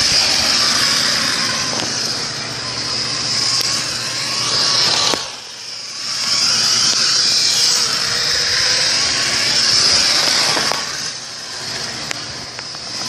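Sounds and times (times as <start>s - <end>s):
toy car electric motor running: 0.0s - 13.0s.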